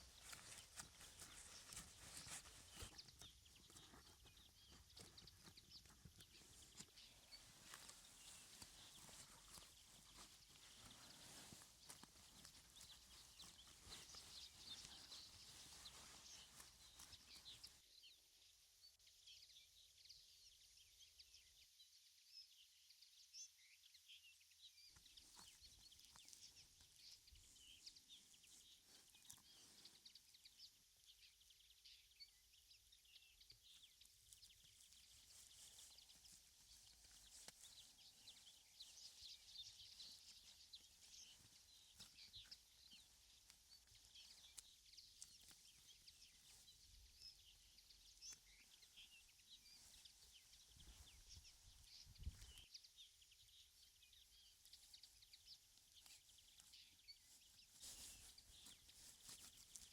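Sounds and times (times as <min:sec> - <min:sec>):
small rustles and ticks: 0:00.0 - 0:18.2, 0:24.3 - 0:59.9.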